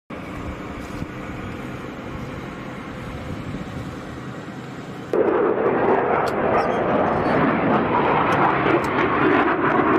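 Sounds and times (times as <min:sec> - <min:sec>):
jet engine rumble: 0:00.1 - 0:09.9.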